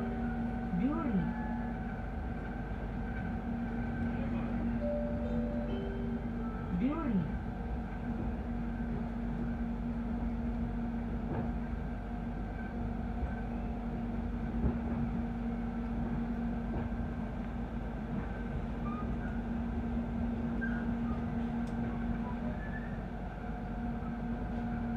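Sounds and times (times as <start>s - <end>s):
train wheels rumbling on track: 0.0s - 24.9s.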